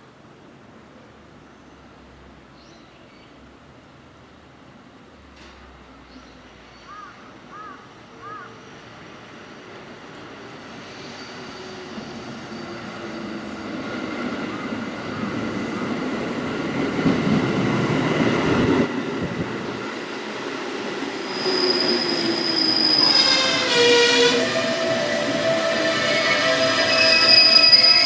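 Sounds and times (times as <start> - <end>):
train running into station: 0.0 - 28.0.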